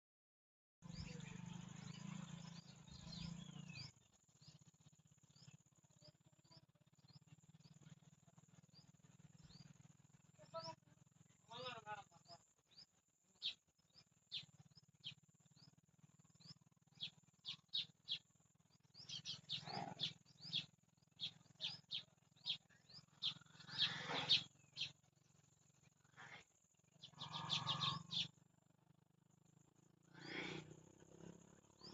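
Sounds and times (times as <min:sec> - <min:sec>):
sparrows chirping: 0:00.8 - 0:31.9.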